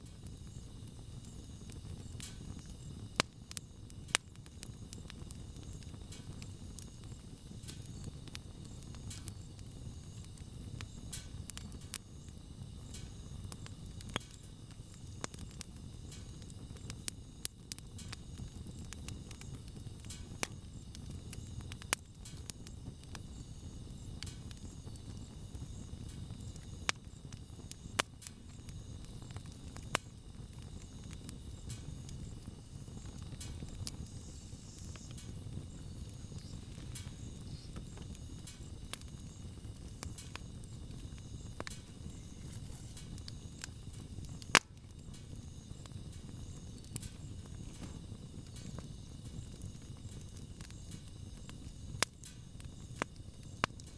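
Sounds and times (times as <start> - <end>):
fire crackles and pops: 0.0 - 53.9
low rumble of flames: 0.0 - 53.9.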